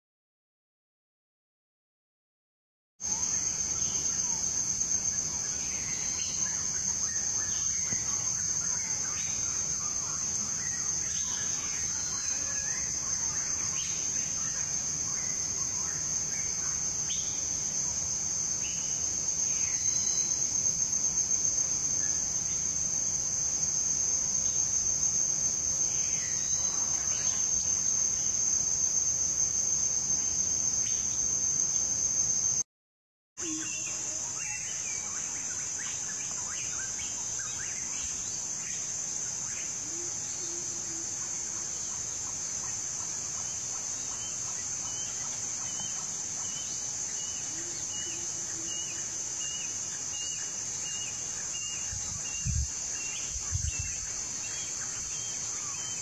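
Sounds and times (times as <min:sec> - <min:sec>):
high-pitched insect drone: 0:03.0 - 0:32.6, 0:33.4 - 0:56.0.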